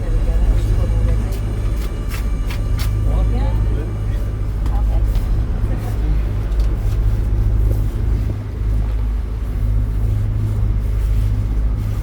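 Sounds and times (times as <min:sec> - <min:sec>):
boat diesel engine droning: 0:00.0 - 0:12.0.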